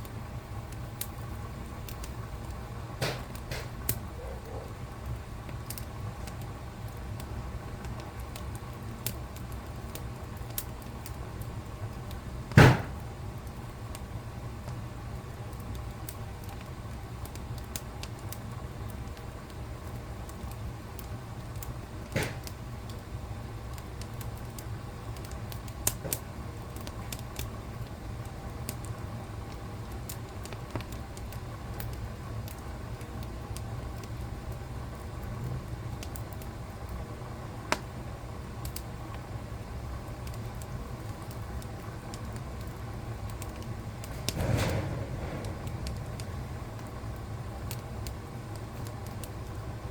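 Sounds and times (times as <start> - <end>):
fire crackling and popping: 0.0 - 49.9
wood fire rumbling: 0.0 - 49.9.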